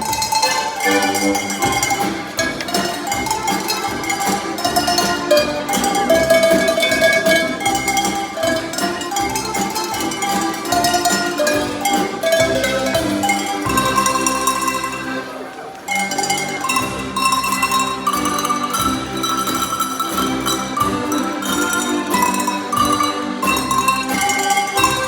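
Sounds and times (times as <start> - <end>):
cowbells playing a melody: 0.0 - 25.0.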